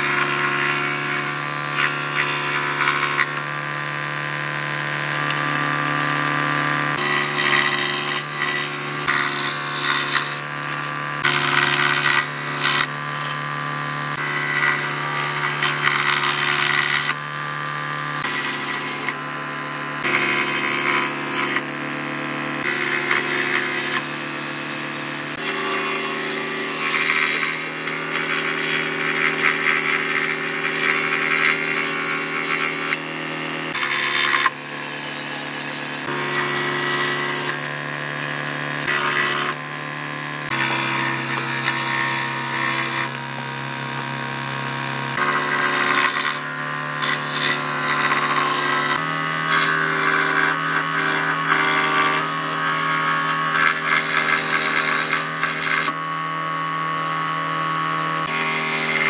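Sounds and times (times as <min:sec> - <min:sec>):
scroll saw motor hum: 0:00.0 - 0:59.0.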